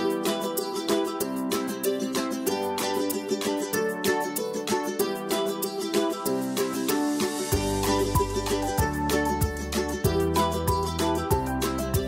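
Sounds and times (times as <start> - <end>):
plucked string tune: 0.0 - 12.0.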